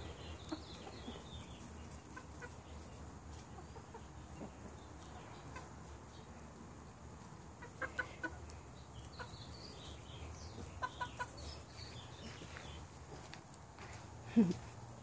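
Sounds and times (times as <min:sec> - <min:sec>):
chickens clucking: 0:00.0 - 0:13.6.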